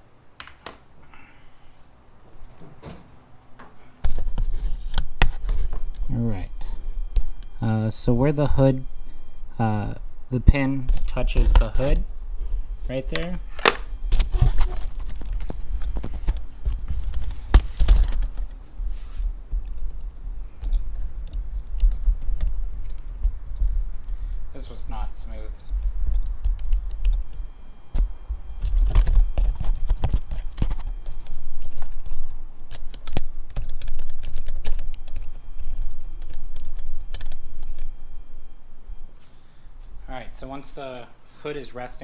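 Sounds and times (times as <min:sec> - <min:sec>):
steady low rumble: 0:04.1 - 0:39.2.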